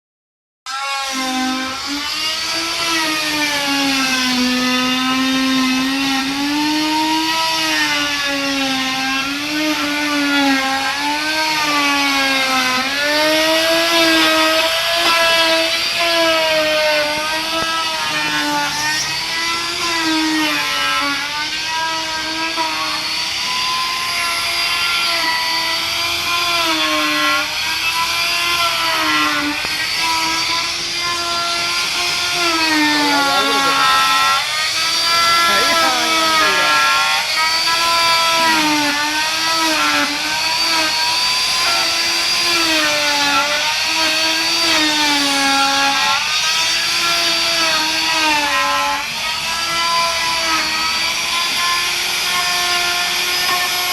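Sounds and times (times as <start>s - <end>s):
power tool motor whining: 0.7s - 53.9s.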